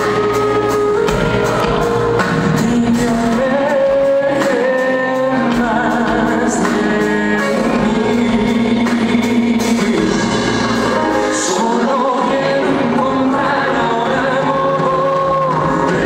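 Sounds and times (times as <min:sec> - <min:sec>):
band with piano: 0:00.0 - 0:16.0
man singing into a microphone: 0:02.3 - 0:16.0.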